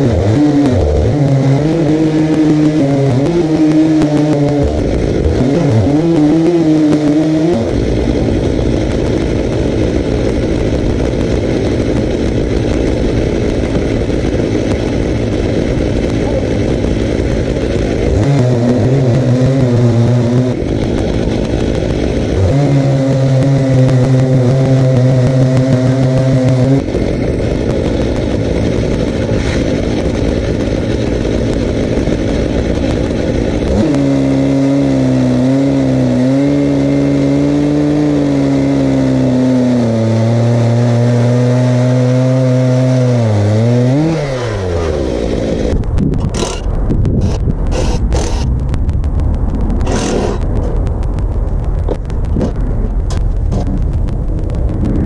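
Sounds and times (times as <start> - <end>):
chainsaws revving and cutting log: 0.0 - 48.7, 49.8 - 50.4.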